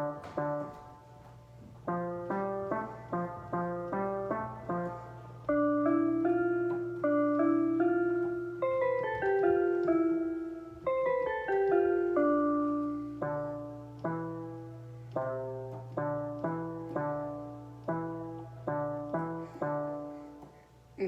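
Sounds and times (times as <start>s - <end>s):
keyboard playing slow piano melody: 0.0s - 21.0s
low electrical hum: 0.0s - 21.0s.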